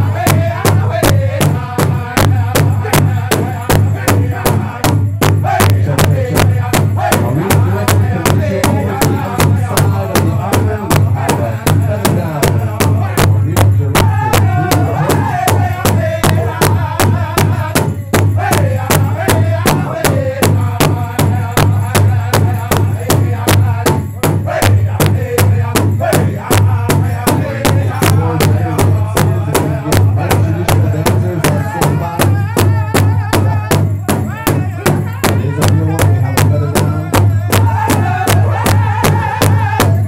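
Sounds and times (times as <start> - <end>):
large drum beating: 0.0 - 40.0
men singing together: 0.0 - 40.0.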